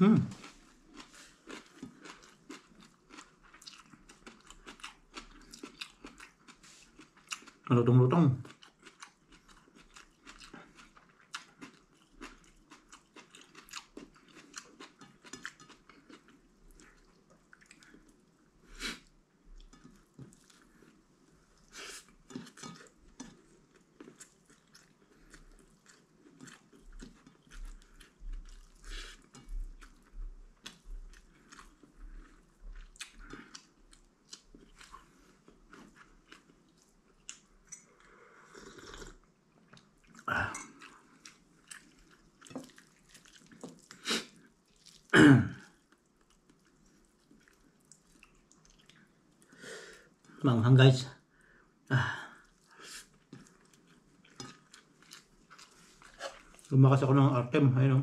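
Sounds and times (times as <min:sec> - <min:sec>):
person chewing crunchy food: 0:00.1 - 0:07.7, 0:08.4 - 0:21.0, 0:21.6 - 0:50.3, 0:52.4 - 0:56.8.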